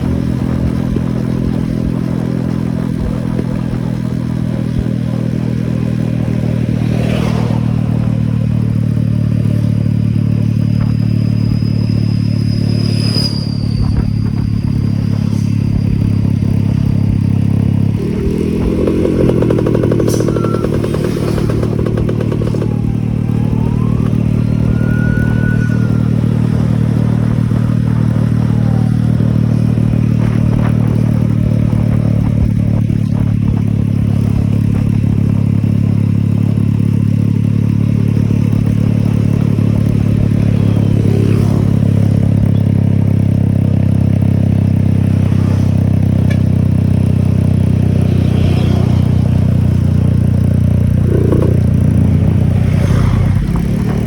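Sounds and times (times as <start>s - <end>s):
two-stroke motorcycle engine running: 0.0s - 12.7s, 13.9s - 54.0s.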